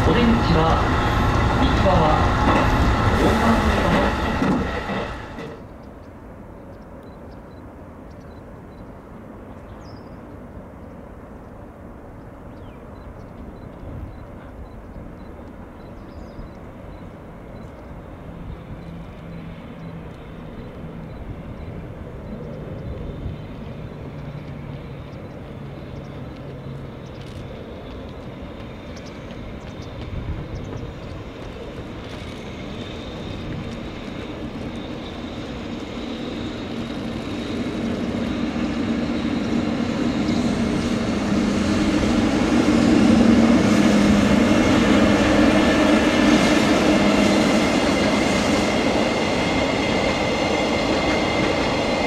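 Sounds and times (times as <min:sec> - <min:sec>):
distant freight train rumble: 0:00.0 - 0:52.0
loud train noise: 0:00.0 - 0:52.0.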